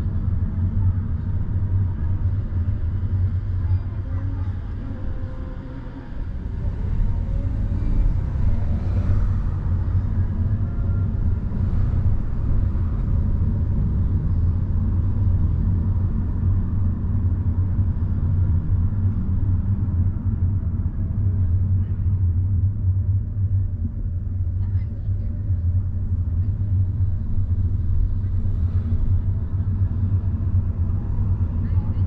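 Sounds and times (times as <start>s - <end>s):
car engine and tyre noise: 0.0s - 32.0s.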